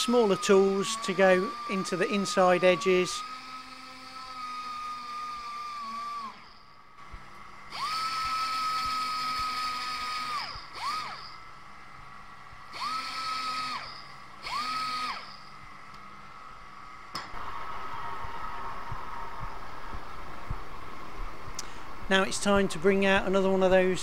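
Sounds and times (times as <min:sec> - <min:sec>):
rotary polishing tool whine: 0:00.0 - 0:12.0, 0:12.6 - 0:16.6, 0:17.2 - 0:22.0.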